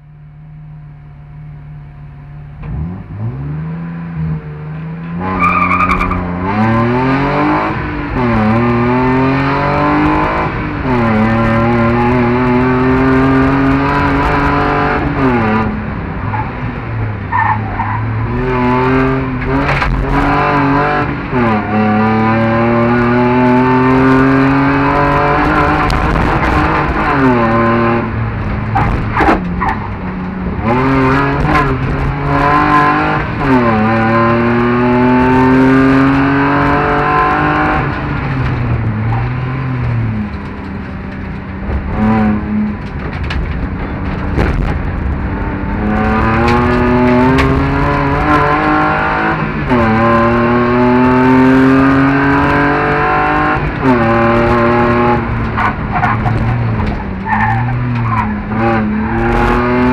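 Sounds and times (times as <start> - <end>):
car engine revving and accelerating: 2.4 - 59.9.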